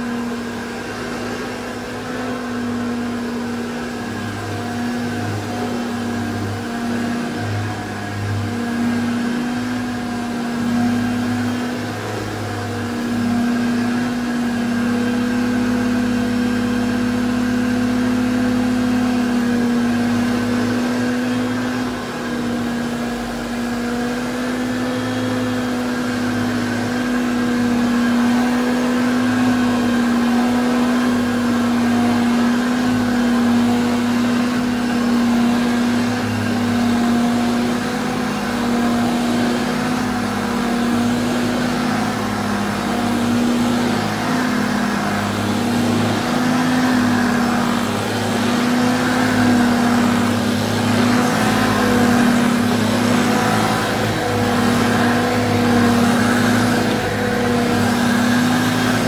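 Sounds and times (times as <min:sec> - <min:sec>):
vacuum cleaner motor hum: 0:00.0 - 0:59.0.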